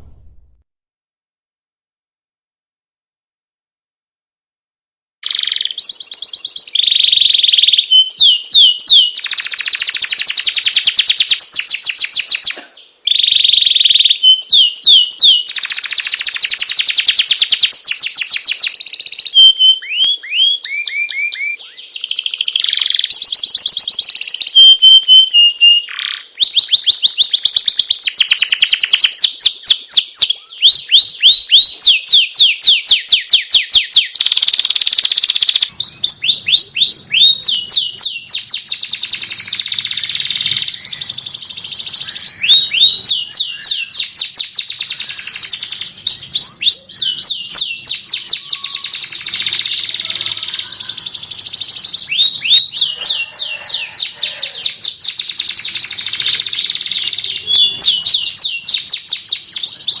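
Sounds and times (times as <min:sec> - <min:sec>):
buzzy bird trill: 0:05.2 - 1:00.0
songbird whistling song: 0:05.2 - 1:00.0.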